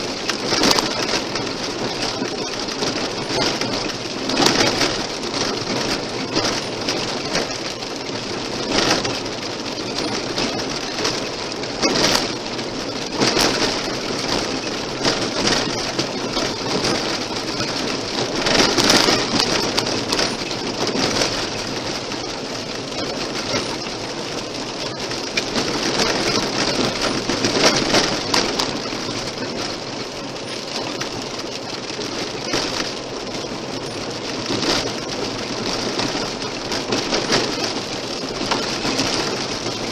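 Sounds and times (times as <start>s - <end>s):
tyres rolling on gravel: 0.0s - 39.9s.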